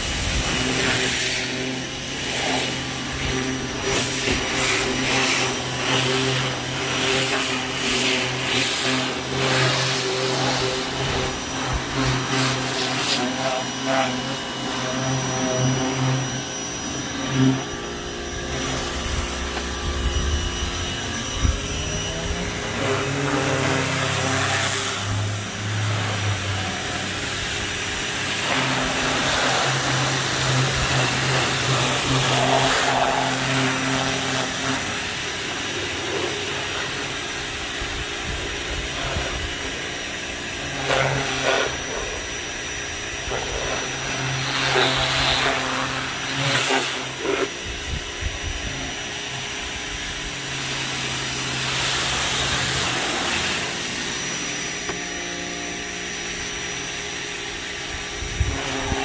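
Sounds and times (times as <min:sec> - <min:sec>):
water jet spraying on car: 0:00.0 - 0:17.2, 0:18.3 - 0:59.0
pressure washer motor humming: 0:00.0 - 0:59.0.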